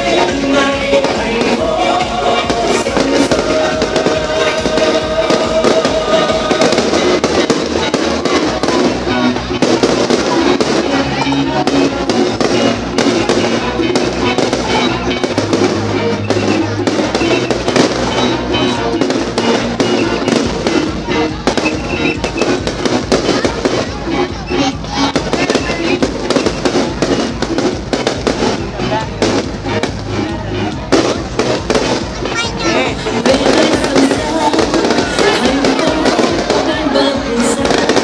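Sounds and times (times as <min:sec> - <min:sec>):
fireworks bursting: 0:00.0 - 0:38.0
music playing: 0:00.0 - 0:38.0.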